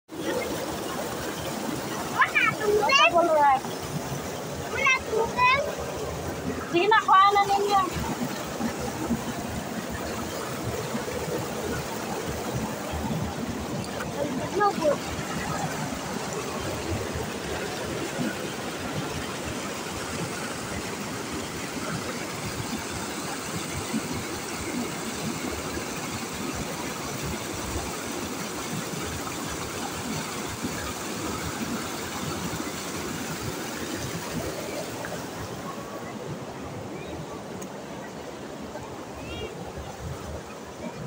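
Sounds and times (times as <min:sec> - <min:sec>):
river rushing over stones: 0:00.1 - 0:41.0.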